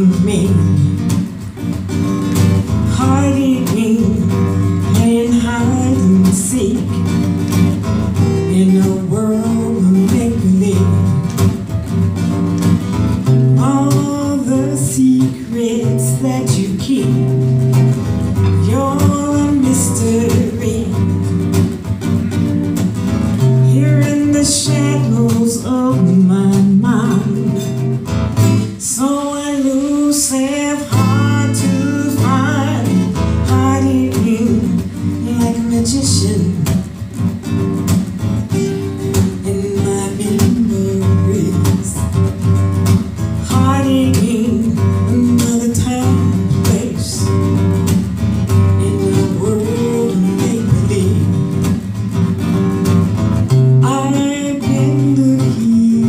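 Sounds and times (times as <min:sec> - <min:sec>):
acoustic guitar: 0:00.0 - 0:56.0
woman singing jazz-blues: 0:00.0 - 0:56.0.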